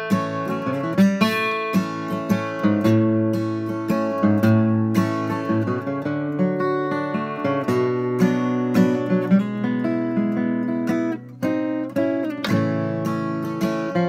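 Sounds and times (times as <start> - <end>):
acoustic guitar flatpicking: 0.0 - 14.0.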